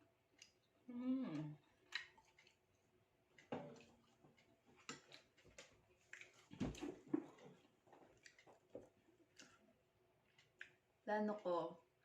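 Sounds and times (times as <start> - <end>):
soft chewing and smacking: 0.0 - 12.0.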